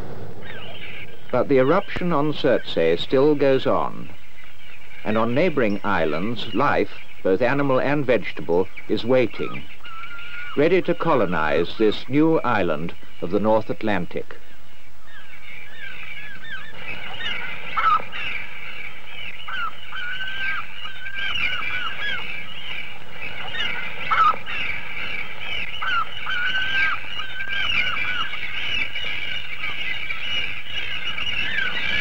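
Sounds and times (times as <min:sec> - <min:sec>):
seabird colony calling: 0:00.0 - 0:32.0.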